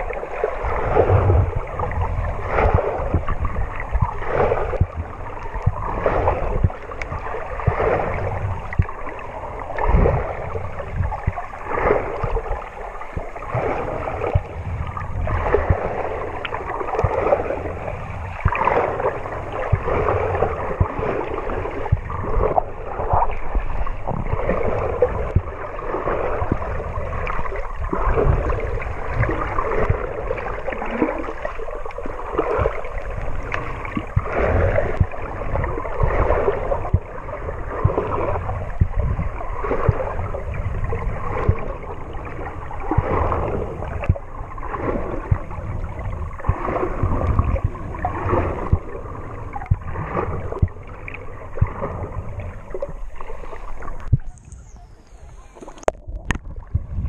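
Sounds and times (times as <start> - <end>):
underwater rushing and gurgling: 0.0 - 57.0.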